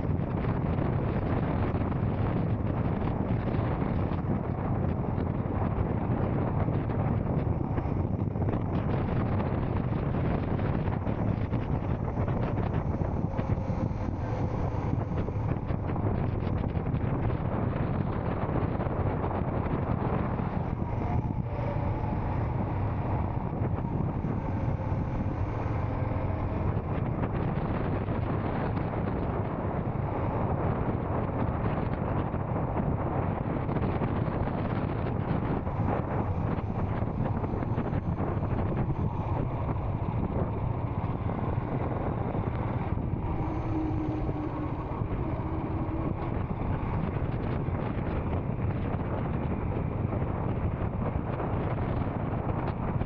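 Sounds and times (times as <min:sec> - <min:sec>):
faint steady tone: 0:00.0 - 0:50.6
wind rushing over microphone: 0:00.0 - 0:53.0.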